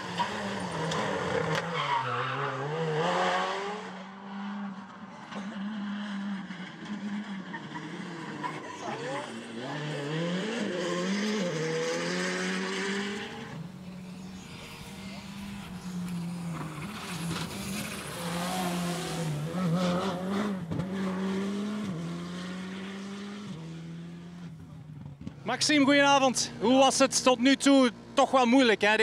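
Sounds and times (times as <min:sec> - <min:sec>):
rally car engine revving: 0:00.0 - 0:28.4.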